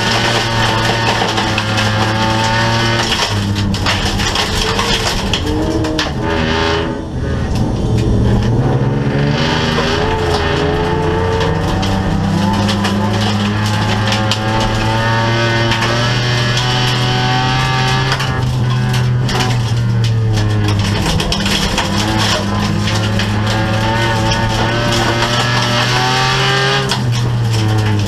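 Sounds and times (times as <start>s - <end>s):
gravel clattering against car body: 0.0s - 6.7s, 9.4s - 28.0s
race car engine revving: 0.0s - 28.0s.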